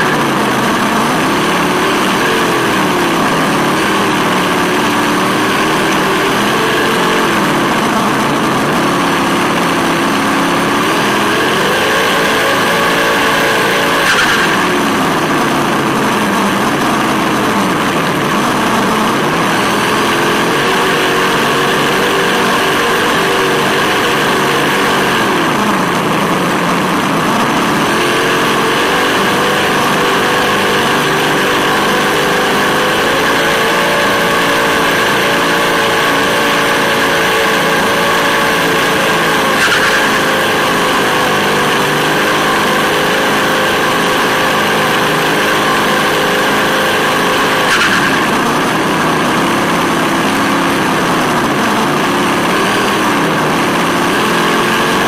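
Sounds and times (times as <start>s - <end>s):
simulated engine sound: 0.0s - 55.0s.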